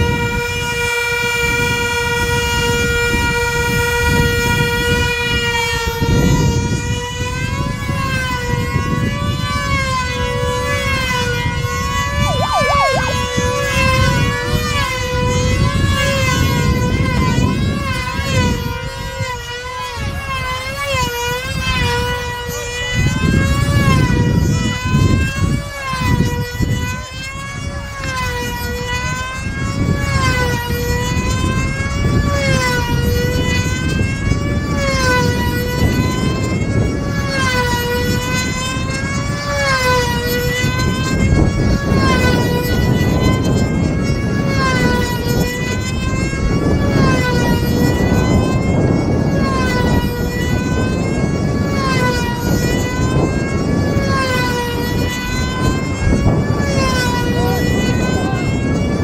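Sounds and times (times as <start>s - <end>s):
model plane engine whining: 0.0s - 59.0s.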